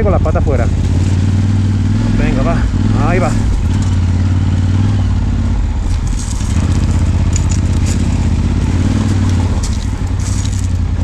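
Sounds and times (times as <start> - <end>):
gravel crackling under tyres: 0.0 - 11.0
motorcycle engine at low revs: 0.0 - 11.0.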